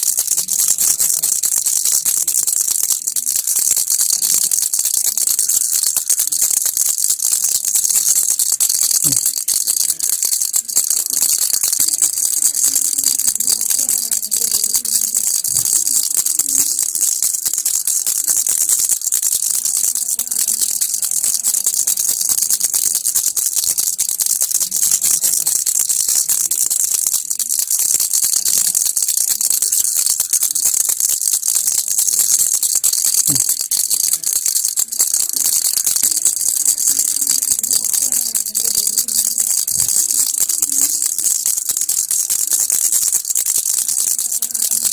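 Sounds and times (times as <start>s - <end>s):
baby rattle shaken: 0.0s - 44.9s.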